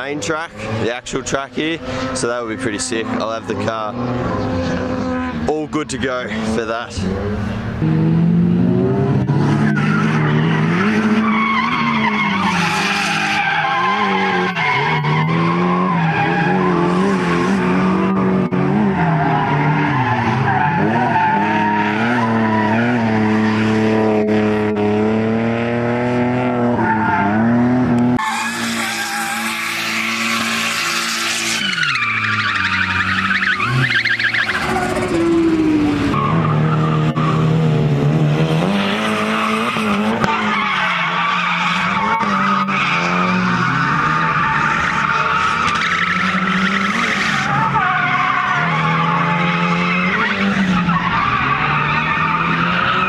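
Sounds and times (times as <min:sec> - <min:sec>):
tyres squealing and skidding: 0:00.0 - 0:07.9, 0:09.1 - 0:24.7, 0:26.6 - 0:53.0
car engines revving hard: 0:00.0 - 0:53.0.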